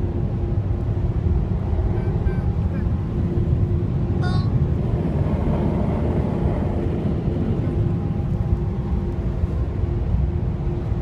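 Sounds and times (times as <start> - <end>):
car engine and road rumble: 0.0 - 11.0
faint constant hum: 0.0 - 11.0.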